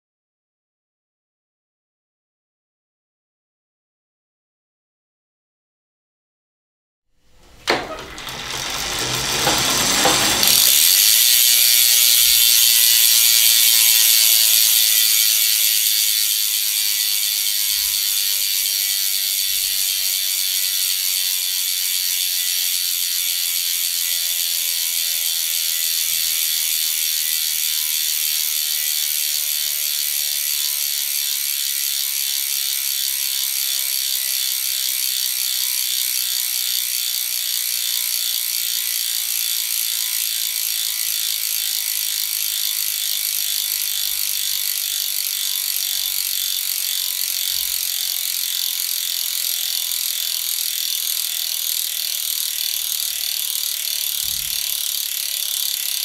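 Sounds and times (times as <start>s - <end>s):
bicycle freehub clicking buzz: 7.3s - 56.0s.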